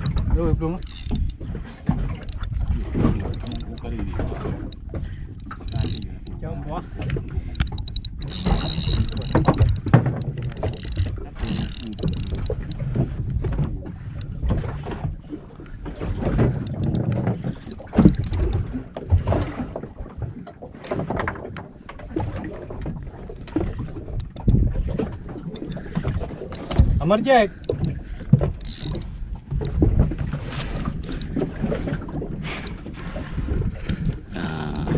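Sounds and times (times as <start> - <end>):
speedboat engine rumble: 0.0 - 20.2, 21.8 - 34.9
water noise: 0.0 - 34.9.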